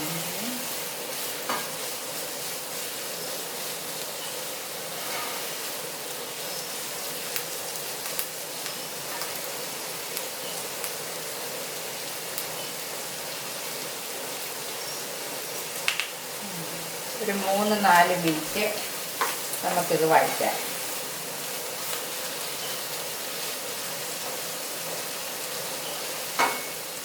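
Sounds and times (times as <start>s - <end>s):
onions sizzling in hot oil: 0.0s - 27.0s.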